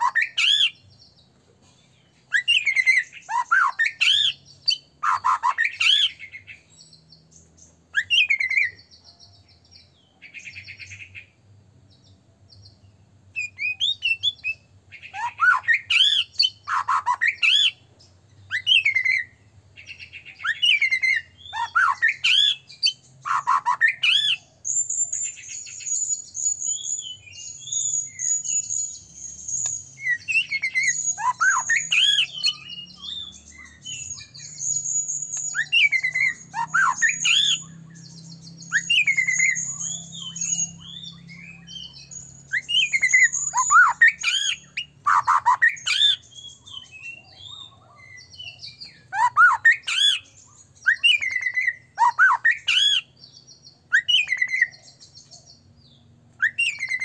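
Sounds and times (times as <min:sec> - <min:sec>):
songbird whistling and chattering: 0:00.0 - 0:01.2, 0:01.9 - 0:11.3, 0:13.4 - 0:55.6, 0:56.4 - 0:57.0.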